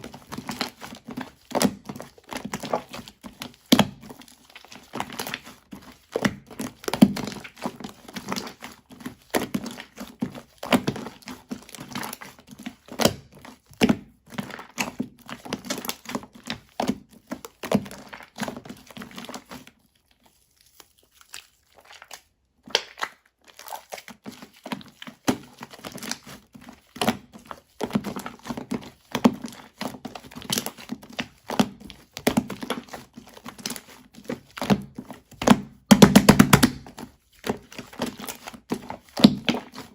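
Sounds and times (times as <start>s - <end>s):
slime crackling and squishing: 0.0s - 39.9s.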